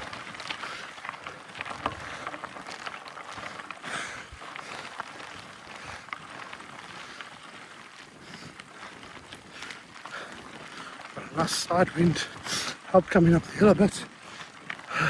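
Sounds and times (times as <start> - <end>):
bike tyres grinding over stones: 0.0 - 15.0.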